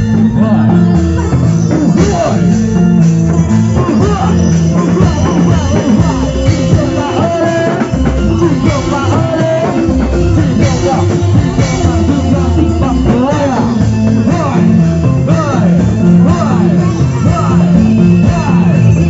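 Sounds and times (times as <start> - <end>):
band music: 0.0 - 19.0
bass line: 0.0 - 19.0
drums: 0.0 - 19.0
wavering singing: 0.0 - 19.0.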